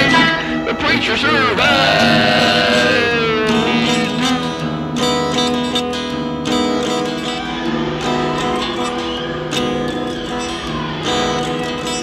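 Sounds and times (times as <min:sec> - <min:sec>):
guitar chords strummed: 0:00.0 - 0:12.0
sustained notes: 0:00.0 - 0:12.0.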